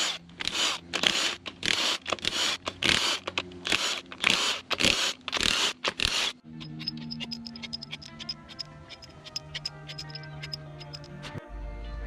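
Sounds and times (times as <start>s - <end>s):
ratchet wrench clicking: 0.0s - 11.4s.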